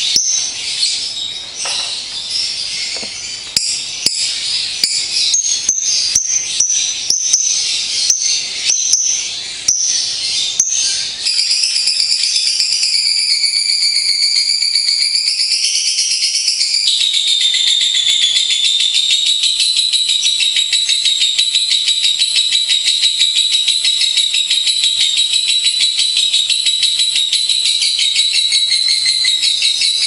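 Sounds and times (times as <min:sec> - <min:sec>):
lovebird chattering trill: 0:00.0 - 0:30.0.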